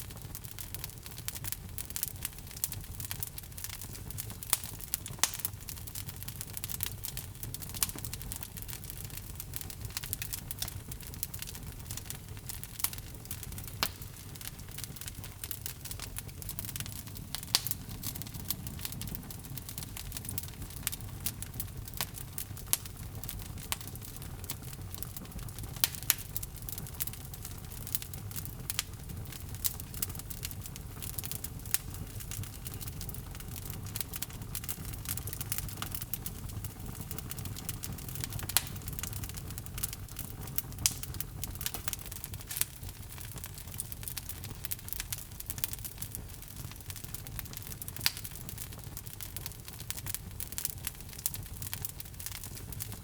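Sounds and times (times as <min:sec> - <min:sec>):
burning wood crackling and popping: 0:00.0 - 0:53.0
rumble of flames: 0:00.0 - 0:53.0.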